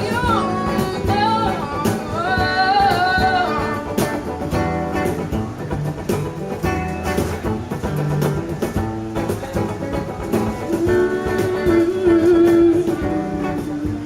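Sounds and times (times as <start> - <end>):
acoustic guitar strumming: 0.0 - 14.0
cajon percussion: 0.0 - 14.0.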